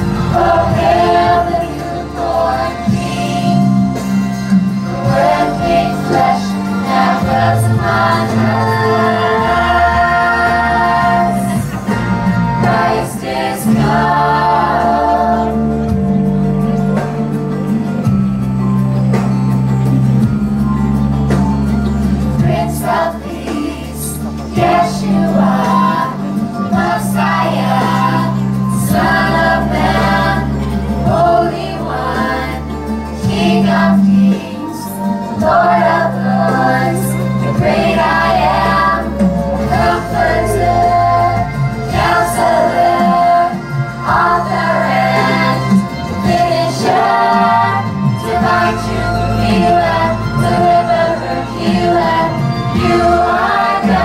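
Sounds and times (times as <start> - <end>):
backing music: 0.0 - 54.0.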